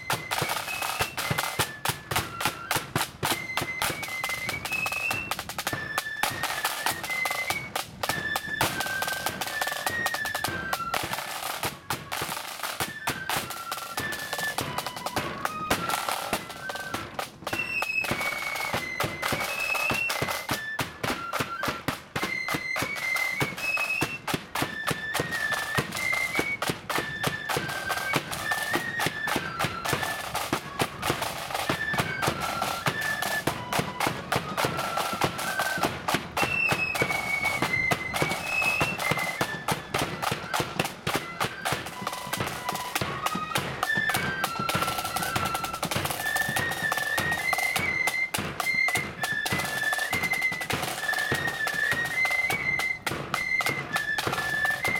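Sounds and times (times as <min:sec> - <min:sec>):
high flute melody: 0:00.0 - 0:54.9
snare drum beats: 0:00.0 - 0:54.9.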